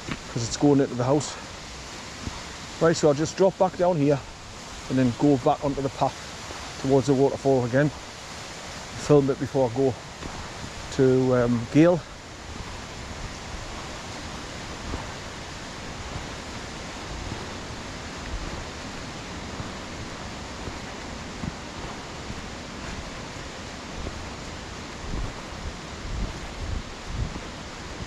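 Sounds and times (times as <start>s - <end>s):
waterfall rushing: 0.0s - 28.0s
wind buffeting microphone: 3.8s - 28.0s.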